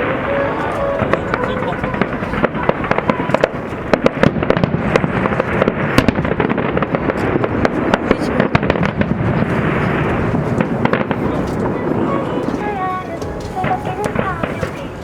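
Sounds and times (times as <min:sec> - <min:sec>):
fireworks crackling and popping: 0:00.0 - 0:15.0
fireworks rumble: 0:00.0 - 0:15.0.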